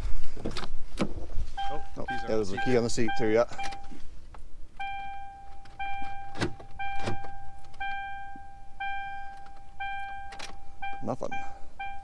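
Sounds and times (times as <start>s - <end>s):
car warning chime: 1.6s - 4.0s, 4.8s - 12.0s.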